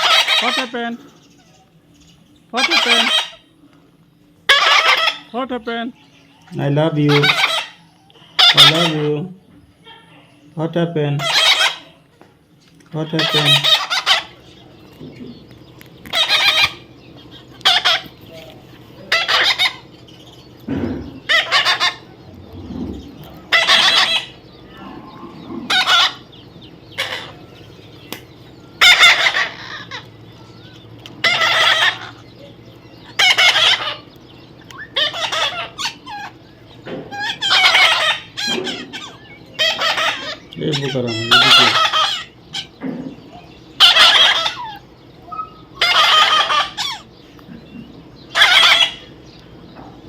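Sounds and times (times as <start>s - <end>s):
parrot squawking: 0.0s - 1.8s, 2.5s - 3.5s, 4.5s - 5.6s, 6.4s - 10.2s, 11.2s - 12.0s, 13.0s - 15.4s, 16.0s - 28.0s, 28.6s - 49.3s.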